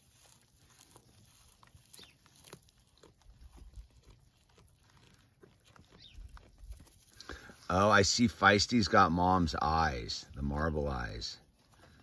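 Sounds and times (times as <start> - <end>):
goat hooves scrabbling on rock: 0.0 - 12.0.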